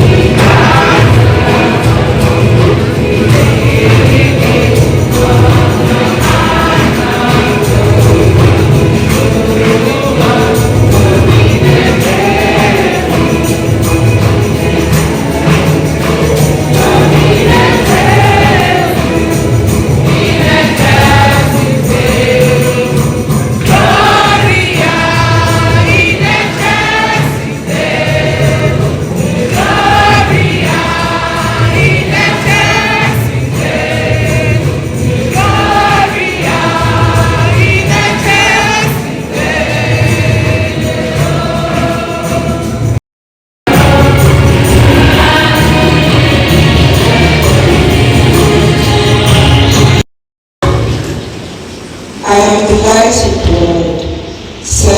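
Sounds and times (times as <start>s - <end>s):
choir singing gospel music: 0.0s - 43.0s, 43.7s - 50.0s
instrumental accompaniment: 0.0s - 43.0s, 43.7s - 50.0s.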